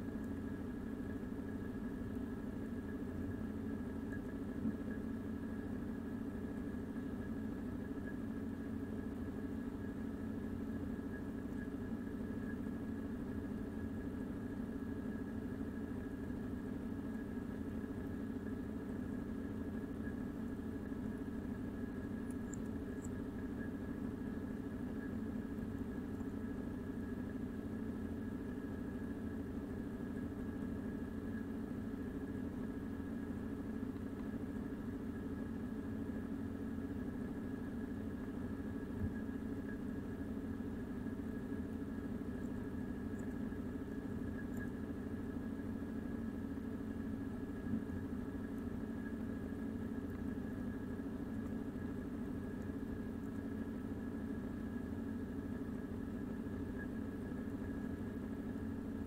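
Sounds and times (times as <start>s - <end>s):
faint high-pitched whine: 0.0s - 59.0s
low hum: 0.0s - 59.0s.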